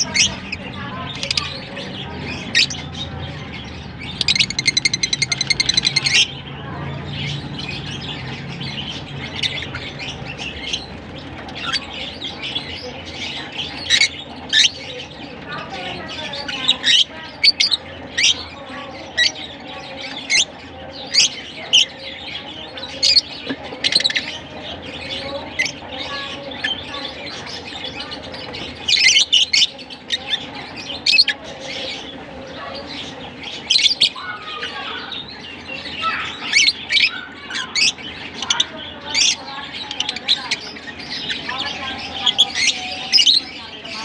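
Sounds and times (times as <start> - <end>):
lovebirds high chirps: 0.0 - 44.0
low bird chatter: 0.0 - 44.0.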